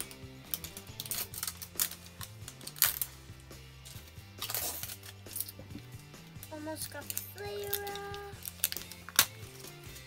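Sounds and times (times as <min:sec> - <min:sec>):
plastic wrapping crinkling: 0:00.0 - 0:03.2, 0:03.9 - 0:10.0
background music with low notes: 0:00.0 - 0:10.0.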